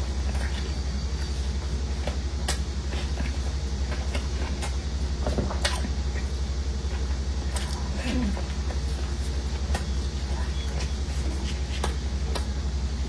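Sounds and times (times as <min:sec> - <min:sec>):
steady low hum: 0:00.0 - 0:13.0
chewing and mouth sounds: 0:00.1 - 0:12.6.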